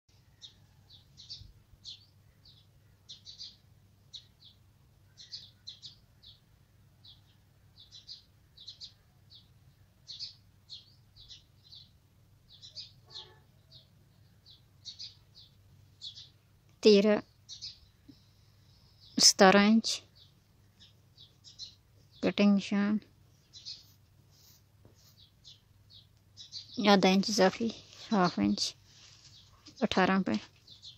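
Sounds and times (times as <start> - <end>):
small bird chirping: 0.2 - 30.9.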